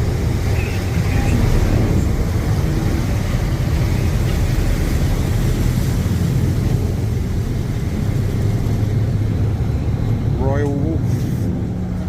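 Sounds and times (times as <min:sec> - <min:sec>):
boat engines rumbling: 0:00.0 - 0:12.0
constant rushing noise: 0:00.0 - 0:12.0.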